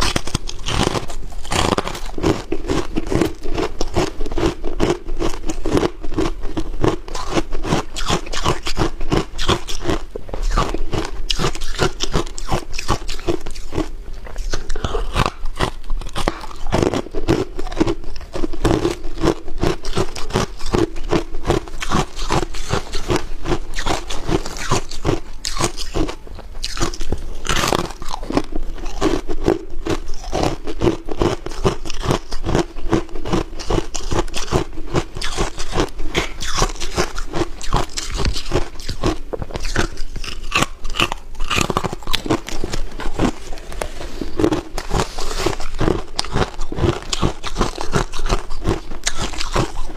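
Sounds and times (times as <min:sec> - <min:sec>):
person crunching ice: 0:00.0 - 0:49.9.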